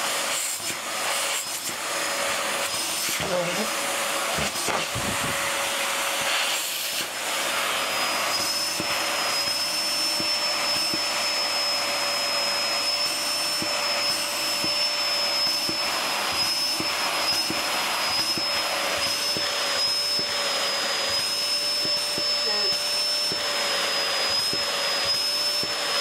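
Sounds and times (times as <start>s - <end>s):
vacuum cleaner whining: 0.0s - 26.0s.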